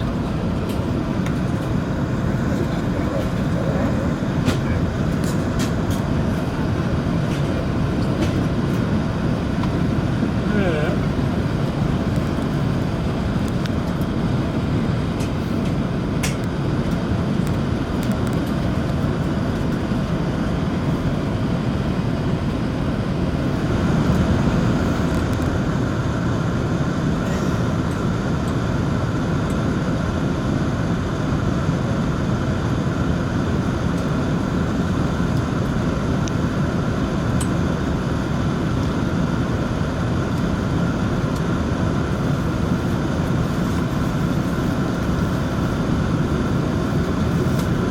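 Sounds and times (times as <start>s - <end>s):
airplane cabin engine hum: 0.0s - 47.9s.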